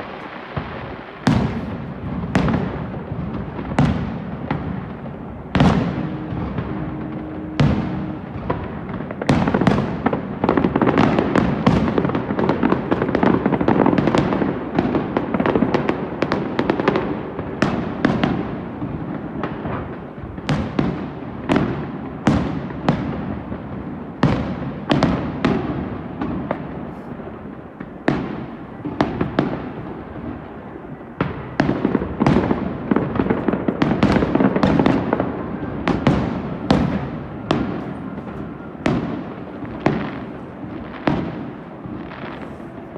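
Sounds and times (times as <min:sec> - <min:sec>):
firework crackling: 0:00.0 - 0:42.9.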